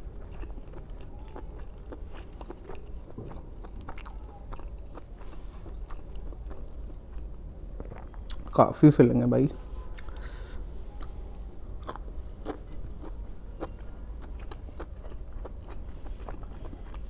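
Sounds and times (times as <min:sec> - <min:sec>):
person chewing: 0:00.0 - 0:08.6, 0:09.5 - 0:17.0
steady low hum: 0:00.0 - 0:17.0.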